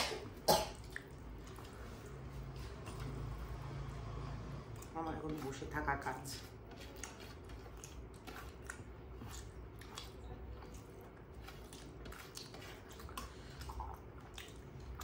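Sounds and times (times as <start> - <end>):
people chewing: 0.0 - 3.6, 6.3 - 15.0.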